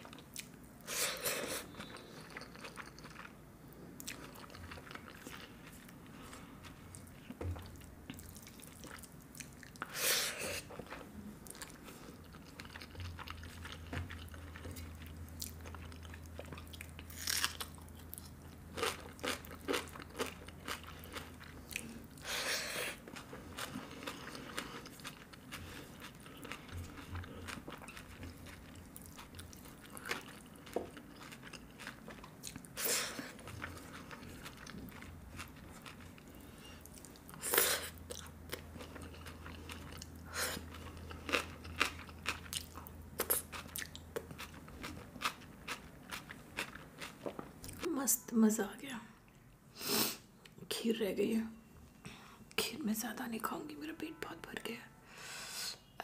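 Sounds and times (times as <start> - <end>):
chewing and mouth sounds: 1.2 - 3.4, 4.0 - 10.0, 10.6 - 47.9.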